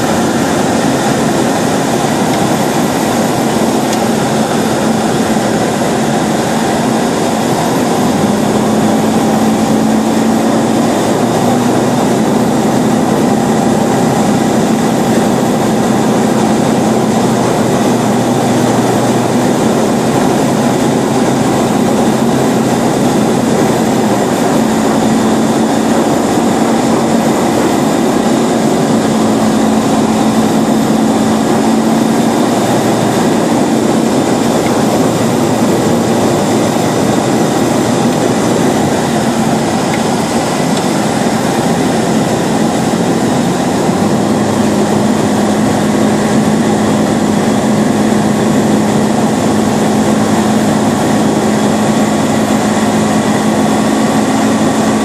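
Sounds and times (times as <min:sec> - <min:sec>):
light aircraft engine droning: 0:00.0 - 0:55.0
rushing airflow: 0:00.0 - 0:55.0.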